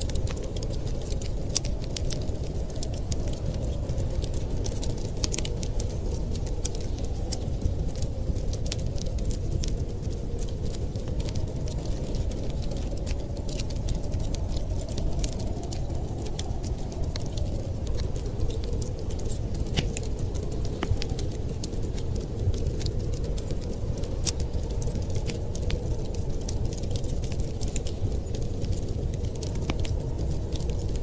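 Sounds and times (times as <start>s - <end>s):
low rumble of wind: 0.0s - 31.0s
wood fire crackling: 0.0s - 31.0s.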